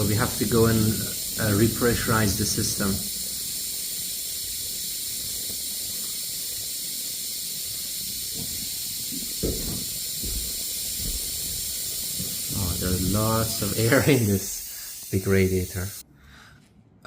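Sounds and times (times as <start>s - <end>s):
air hissing from radiator valve: 0.0s - 16.0s.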